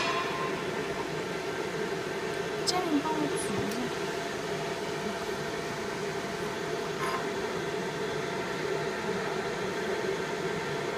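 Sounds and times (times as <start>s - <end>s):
laser marking machine humming: 0.0s - 10.9s.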